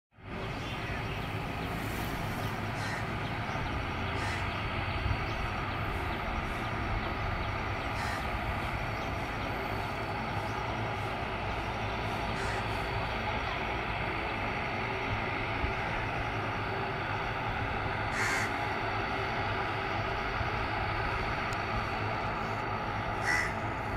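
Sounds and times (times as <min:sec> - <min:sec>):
turboprop engines running: 0:00.1 - 0:23.9.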